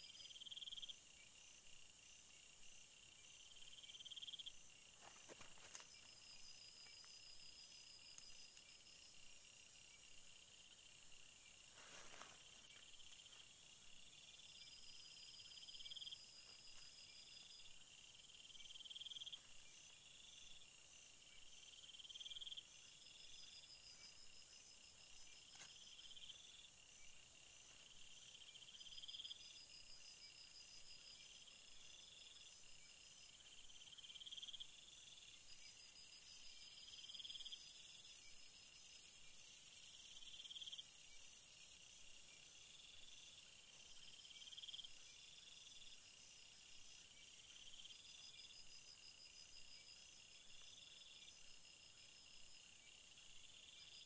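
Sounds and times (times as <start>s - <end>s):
steady high insect chirring: 0.0s - 54.0s.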